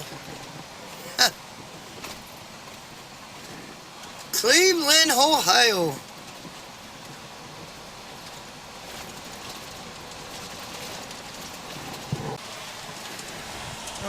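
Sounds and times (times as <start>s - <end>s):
road noise inside truck cab: 0.0s - 14.0s.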